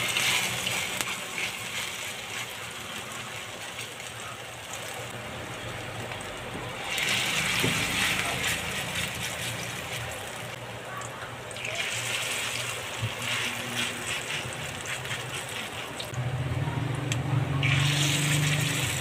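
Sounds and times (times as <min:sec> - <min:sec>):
food frying in hot oil: 0:00.0 - 0:19.0.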